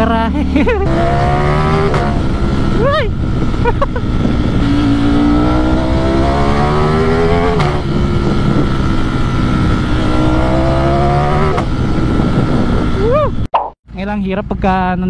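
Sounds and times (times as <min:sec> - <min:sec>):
motorcycle engine accelerating: 0:00.0 - 0:13.5.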